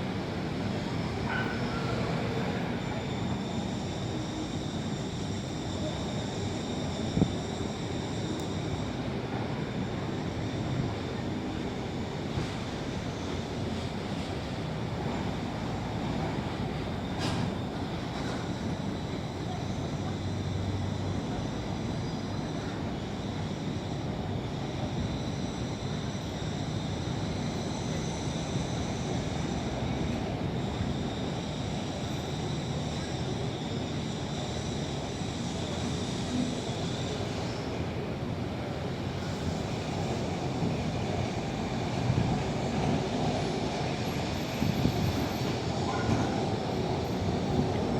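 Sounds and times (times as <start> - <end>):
funicular car rumbling on track: 0.0 - 47.9.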